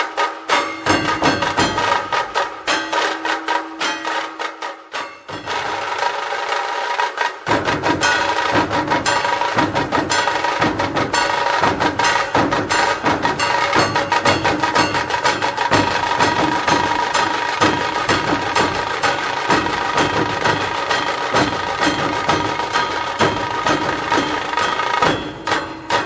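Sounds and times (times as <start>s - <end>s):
rapid dense drum strokes: 0.0s - 26.0s
steady melodic tone: 0.3s - 6.1s, 7.8s - 26.0s.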